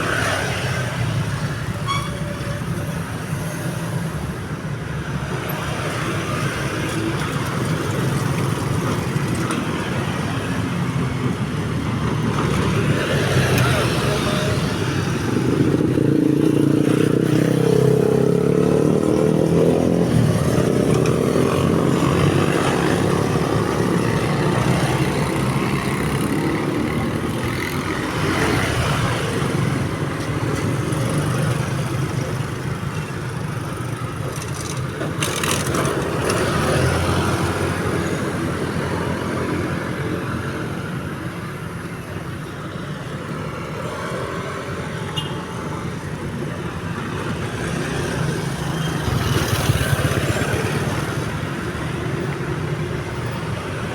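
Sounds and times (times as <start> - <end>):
traffic passing: 0.0 - 53.9.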